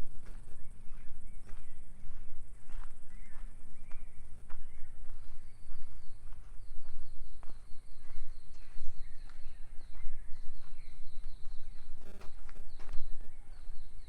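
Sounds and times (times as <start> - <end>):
footsteps on forest trail: 0.0 - 14.0.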